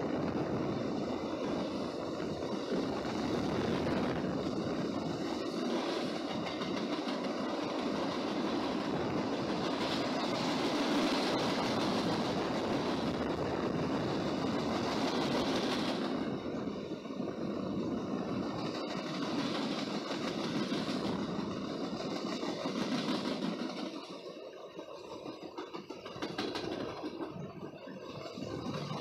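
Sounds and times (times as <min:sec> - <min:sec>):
train wheels rolling on rails: 0:00.0 - 0:29.0.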